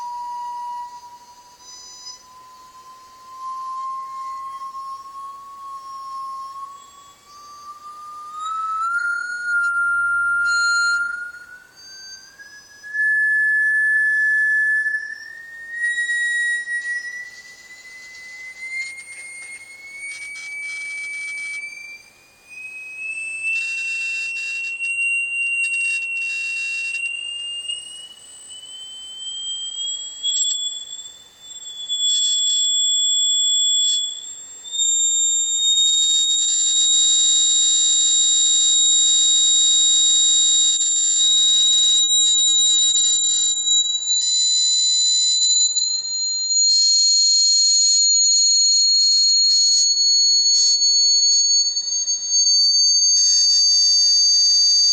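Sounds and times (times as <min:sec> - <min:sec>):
high-pitched whistling tones: 0:00.0 - 0:54.9.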